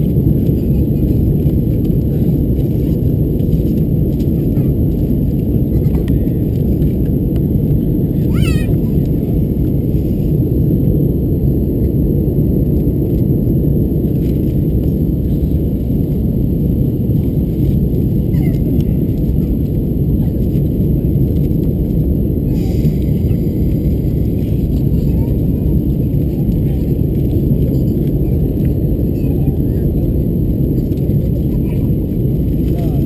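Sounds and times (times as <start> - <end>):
jet engine rumble: 0.0 - 33.0.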